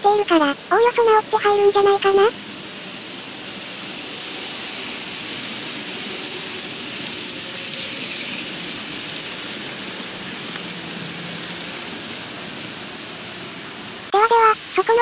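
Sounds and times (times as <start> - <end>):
model trains whirring on rails: 0.0 - 15.0.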